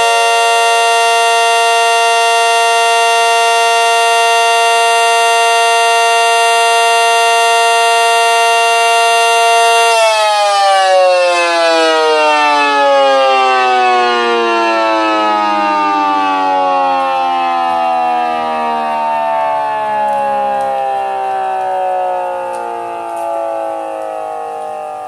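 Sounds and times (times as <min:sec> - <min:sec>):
siren winding down: 0:00.0 - 0:25.0.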